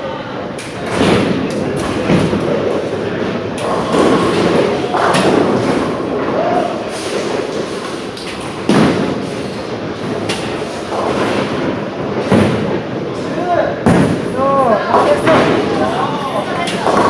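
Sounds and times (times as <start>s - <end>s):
bowling balls rolling: 0.3s - 17.0s.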